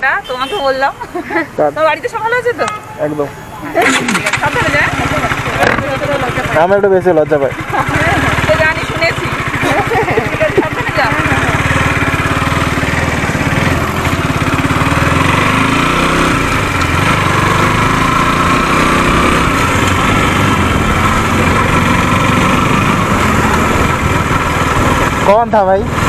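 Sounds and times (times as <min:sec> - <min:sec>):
small motorcycle engine running: 0:03.8 - 0:26.0.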